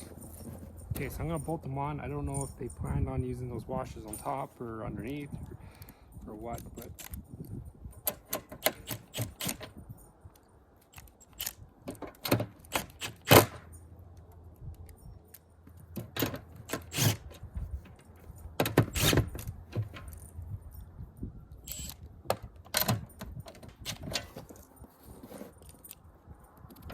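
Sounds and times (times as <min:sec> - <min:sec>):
metal hardware clinking: 0:00.0 - 0:03.0, 0:04.0 - 0:05.2, 0:05.8 - 0:21.0, 0:21.6 - 0:26.9.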